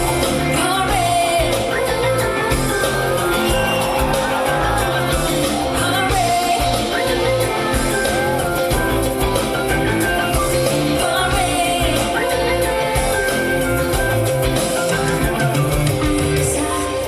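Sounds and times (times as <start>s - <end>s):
live pop-rock band playing: 0.0s - 17.0s
person singing: 0.0s - 17.0s.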